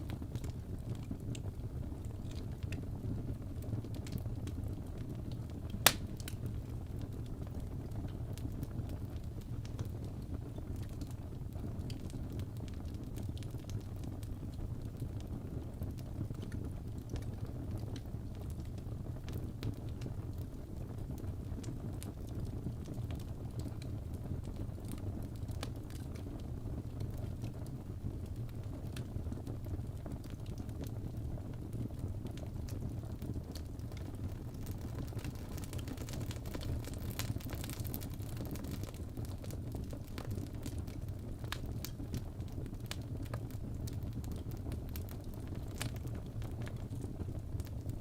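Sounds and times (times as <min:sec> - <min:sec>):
fireplace fire crackling: 0:00.0 - 0:48.0.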